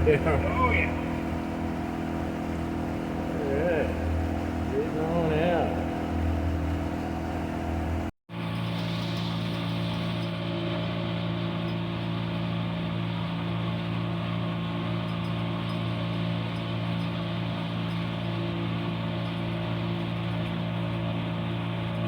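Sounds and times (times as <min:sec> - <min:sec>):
outboard motor droning: 0:00.0 - 0:22.0.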